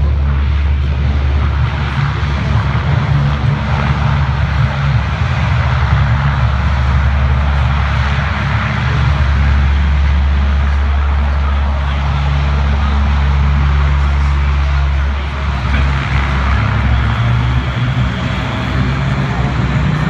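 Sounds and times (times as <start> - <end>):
turboprop aircraft engines droning: 0.0 - 20.0.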